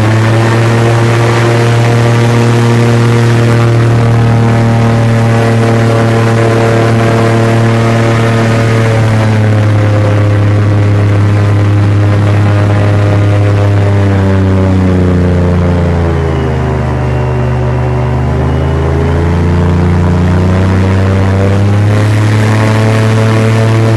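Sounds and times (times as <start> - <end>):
airboat engine and propeller: 0.0 - 23.9.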